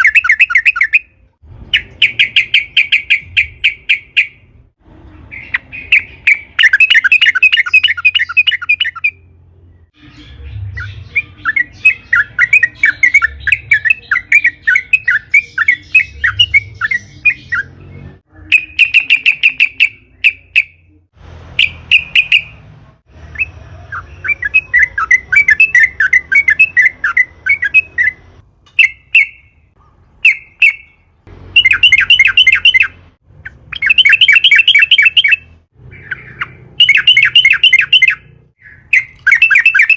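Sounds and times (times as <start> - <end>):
bird chattering song: 0.0 - 4.6, 5.2 - 21.0, 21.6 - 22.6, 23.2 - 39.9.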